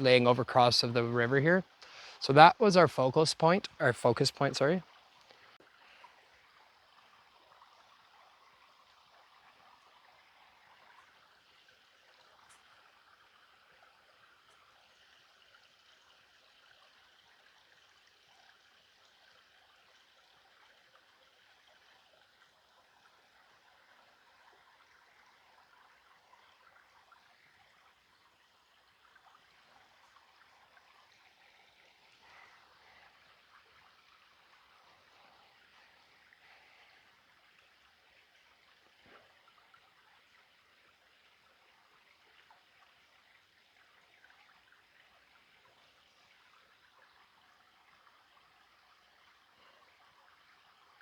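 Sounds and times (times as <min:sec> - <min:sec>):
stream trickling over small waterfalls: 0:00.0 - 0:51.0.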